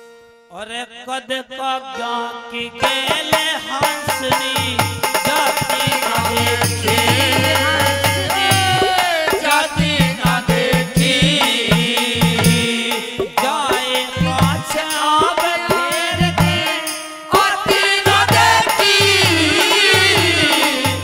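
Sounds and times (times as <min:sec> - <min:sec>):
rattling percussion: 0:02.8 - 0:21.0
steady drum beat: 0:03.4 - 0:21.0.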